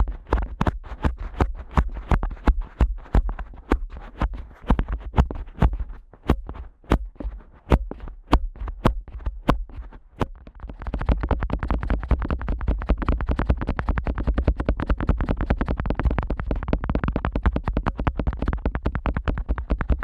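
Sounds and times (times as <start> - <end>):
fingers flicking microphone ear: 0.0 - 20.0
rubbing and tapping on ear: 0.0 - 20.0.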